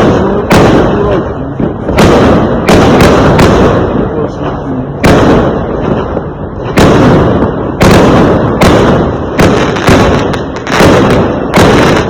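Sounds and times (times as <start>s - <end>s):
fireworks booming: 0.0s - 12.0s.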